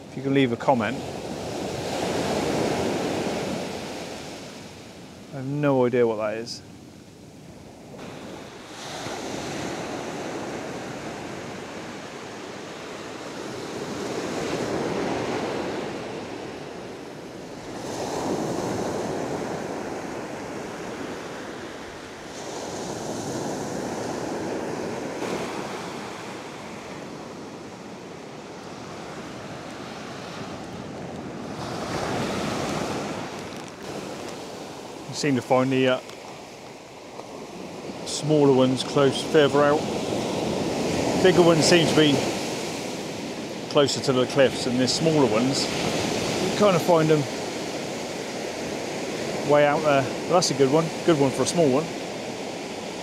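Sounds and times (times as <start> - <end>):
waves breaking on a beach: 0.0 - 53.0.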